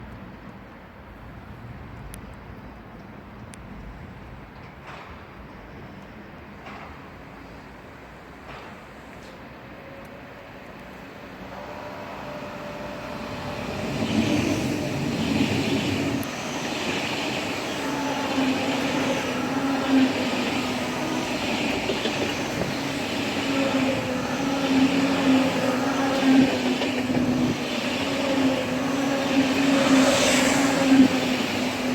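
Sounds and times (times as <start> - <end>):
electric train passing: 5.4 - 31.9.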